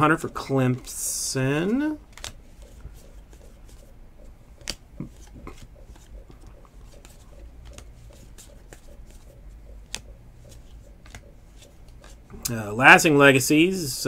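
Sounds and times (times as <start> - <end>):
steady low hum: 0.0 - 14.0
cards flipping ticks and rustles: 0.1 - 12.4.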